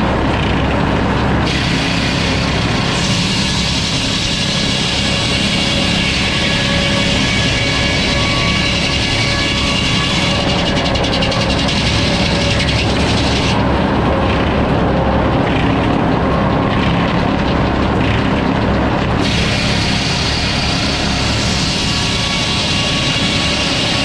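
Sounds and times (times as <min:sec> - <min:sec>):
sawmill sawing logs: 0:00.0 - 0:24.0.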